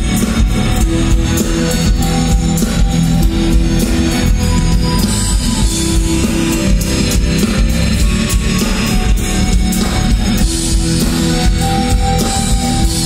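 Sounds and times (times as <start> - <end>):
drum kit beat: 0.0 - 13.0
electric guitars: 0.0 - 13.0
rock band playing live: 0.0 - 13.0.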